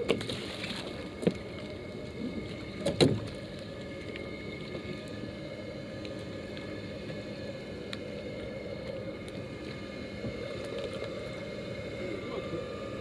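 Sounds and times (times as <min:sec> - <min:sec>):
boat engine hum: 0:00.0 - 0:13.0.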